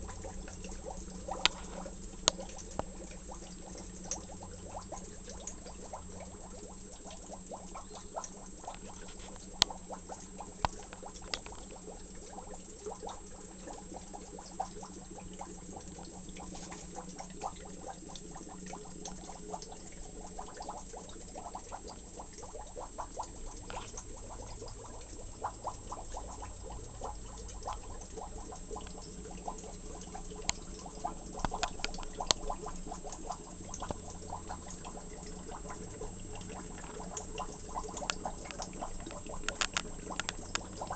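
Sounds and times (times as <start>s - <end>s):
aquarium water bubbling: 0.0s - 40.9s
fine crackle of ticks: 0.0s - 40.9s.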